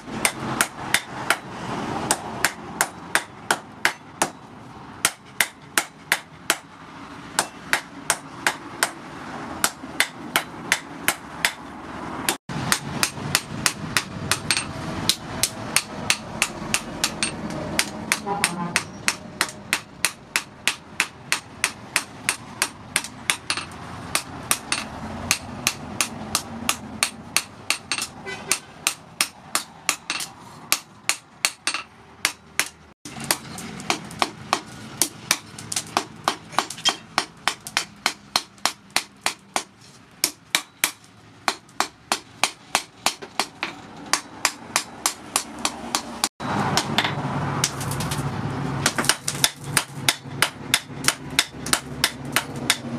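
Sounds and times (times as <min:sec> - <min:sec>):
hammer striking metal on anvil: 0:07.4 - 0:09.0, 0:09.6 - 0:11.6, 0:12.3 - 0:48.1, 0:48.8 - 0:52.9.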